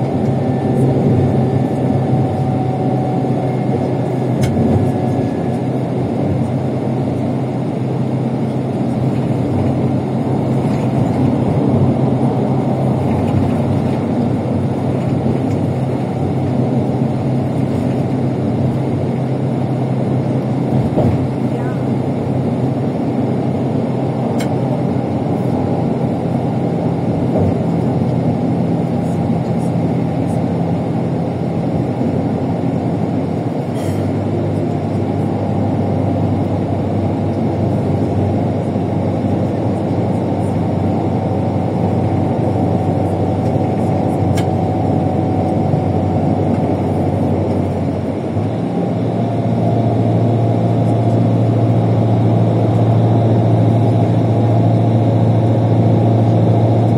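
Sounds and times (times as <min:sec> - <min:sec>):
bus engine and road noise: 0:00.0 - 0:56.9.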